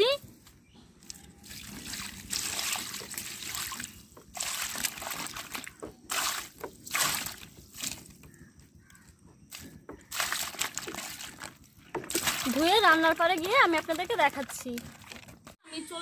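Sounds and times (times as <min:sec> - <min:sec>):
water splashing and trickling: 0:00.9 - 0:15.6.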